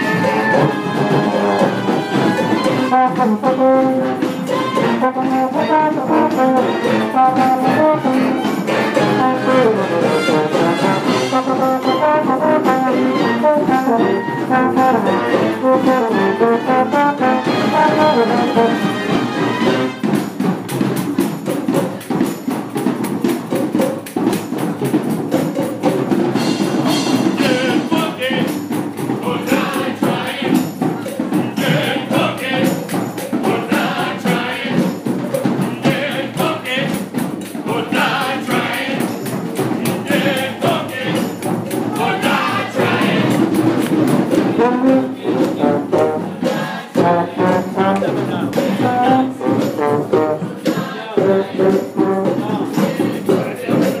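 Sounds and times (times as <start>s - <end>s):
brass band playing: 0.0s - 54.0s
tambourine shaking: 0.0s - 54.0s.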